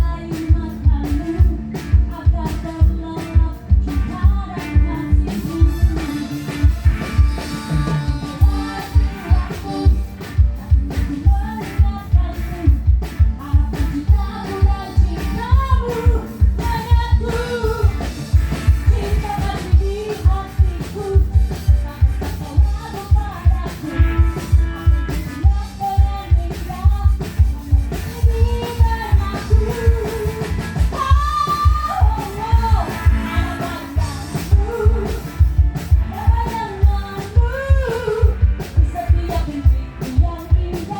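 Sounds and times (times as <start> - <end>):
live band music: 0.0 - 40.9
woman singing: 0.0 - 40.9.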